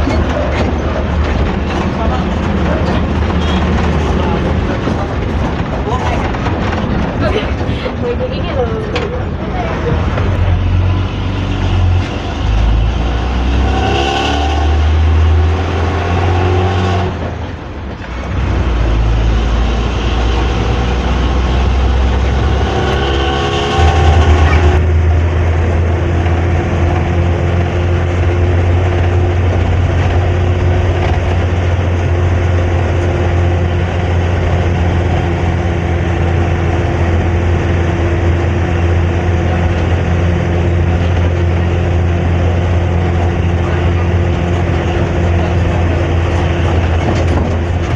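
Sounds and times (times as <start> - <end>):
bus diesel engine rumble: 0.0 - 47.9.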